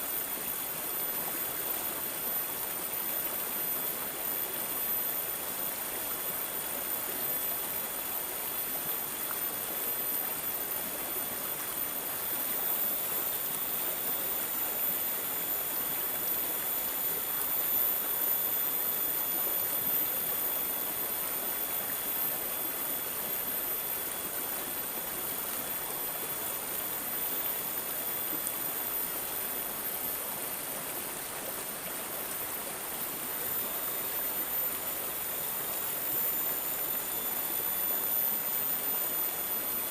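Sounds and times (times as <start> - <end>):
water babbling and gurgling: 0.0 - 39.9.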